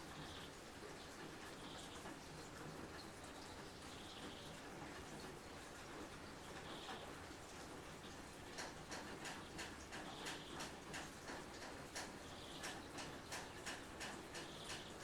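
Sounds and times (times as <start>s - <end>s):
raindrops dripping on a surface: 0.0s - 15.0s.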